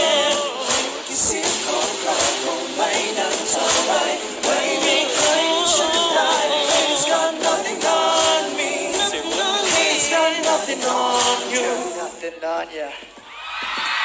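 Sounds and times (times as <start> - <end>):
male vocal group singing: 0.0 - 13.0
pop backing track with beat: 0.0 - 14.0.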